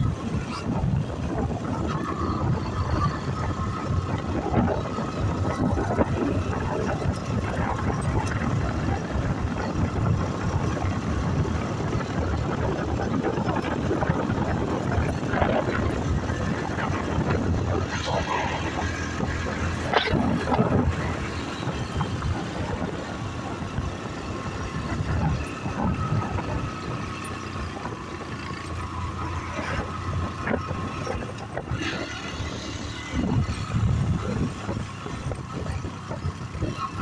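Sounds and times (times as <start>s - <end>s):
road and wind noise: 0.0s - 37.0s
vehicle engine droning: 0.0s - 37.0s.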